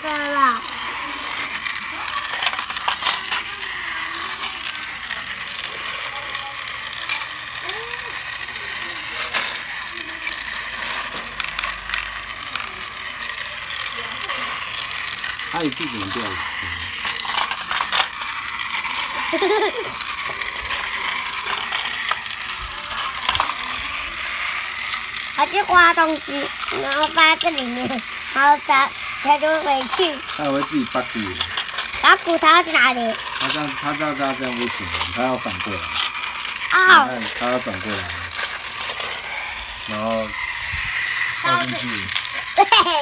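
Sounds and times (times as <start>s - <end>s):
toy train gears clicking and rattling: 0.0s - 43.0s.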